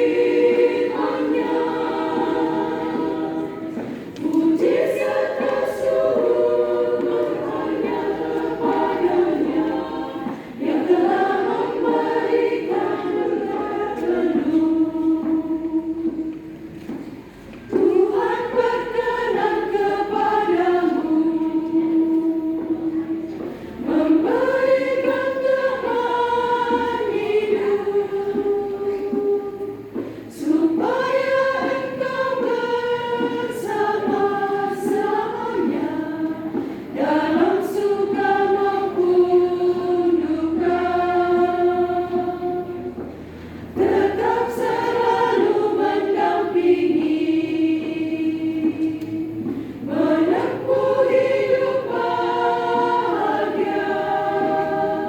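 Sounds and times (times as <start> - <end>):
congregation choir singing: 0.0 - 55.0.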